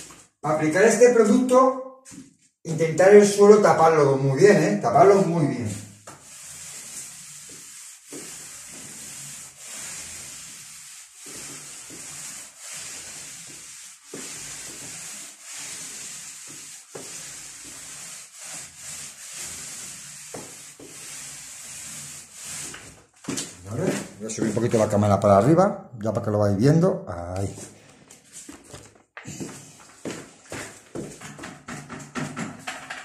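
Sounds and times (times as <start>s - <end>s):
paint roller swishing on wall: 0.0s - 25.3s, 27.5s - 33.0s.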